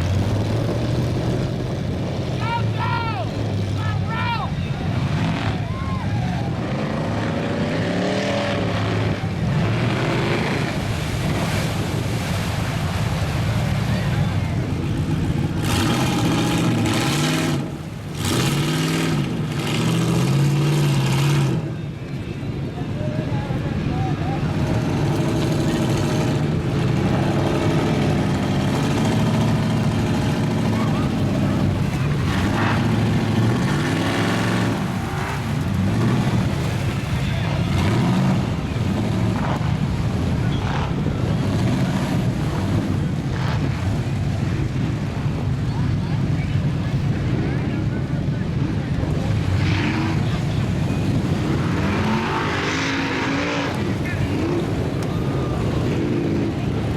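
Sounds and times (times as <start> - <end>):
truck engine revving hard: 0.0 - 21.9, 24.1 - 56.9.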